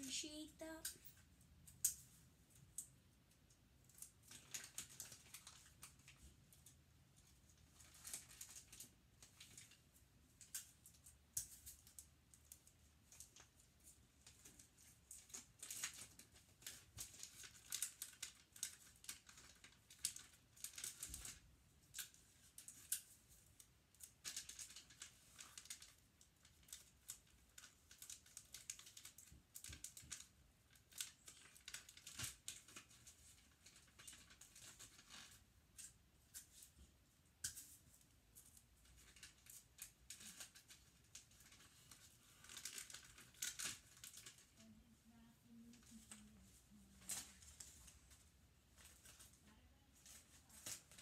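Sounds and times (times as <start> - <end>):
wrapping paper crinkling: 3.8 - 36.8, 37.5 - 51.0.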